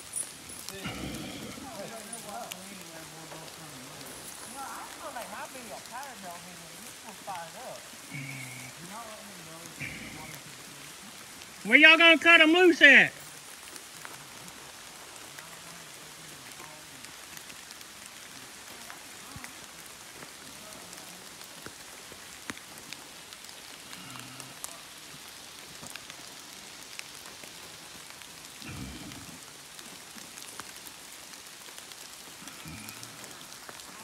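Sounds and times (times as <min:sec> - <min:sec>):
nearby raindrop hits: 0:00.0 - 0:34.0
steady rain falling: 0:00.0 - 0:34.0.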